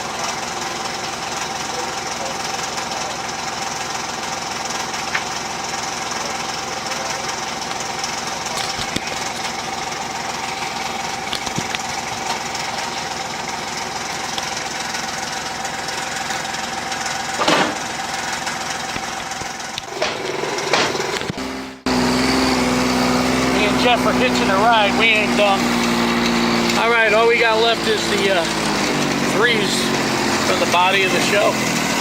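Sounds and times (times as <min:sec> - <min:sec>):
utility vehicle engine running: 0:00.0 - 0:32.0.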